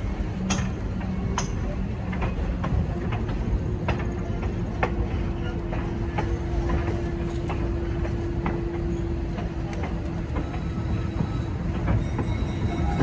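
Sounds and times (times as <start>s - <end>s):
clacks of rail joints: 0.0s - 13.0s
train wheels rumbling on rail: 0.0s - 13.0s.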